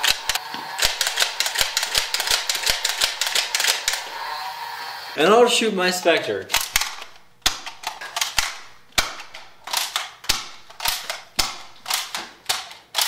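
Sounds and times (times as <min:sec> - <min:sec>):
toy dart gun cocking and firing: 0:00.0 - 0:04.2, 0:06.5 - 0:13.0.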